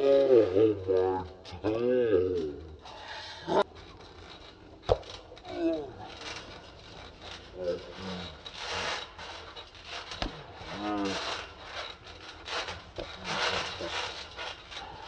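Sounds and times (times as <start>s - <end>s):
trampoline mat and springs rasping: 0.0s - 15.0s.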